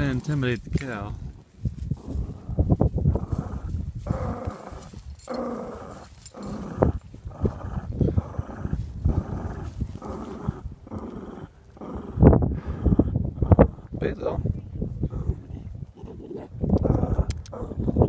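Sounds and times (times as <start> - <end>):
small dog growling: 2.0 - 14.0, 15.0 - 18.0.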